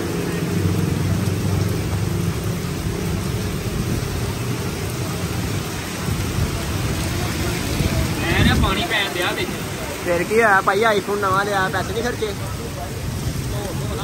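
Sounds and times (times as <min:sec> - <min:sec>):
heavy rain pouring: 0:00.0 - 0:14.0
rain on a tarp awning: 0:00.0 - 0:14.0.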